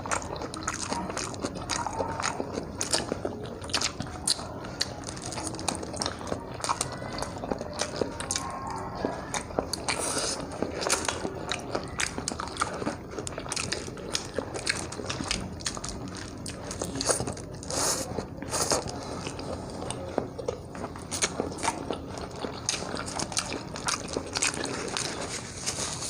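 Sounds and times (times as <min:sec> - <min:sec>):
biting and chewing food: 0:00.0 - 0:26.0.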